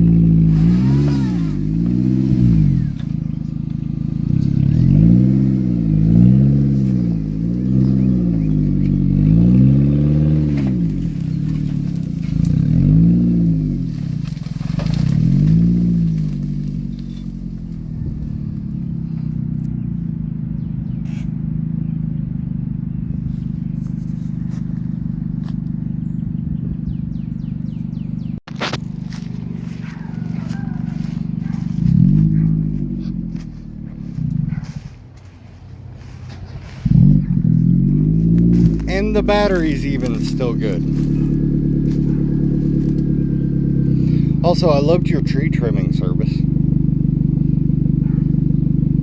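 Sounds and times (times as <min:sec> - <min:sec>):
car engine revving and idling: 0:00.0 - 0:49.0.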